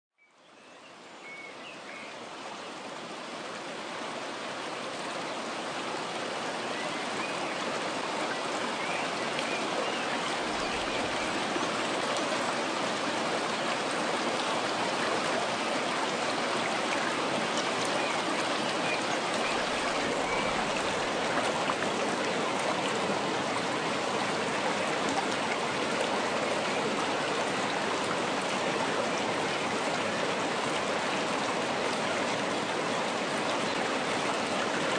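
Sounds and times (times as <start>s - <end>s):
stream water rushing: 0.6s - 34.9s.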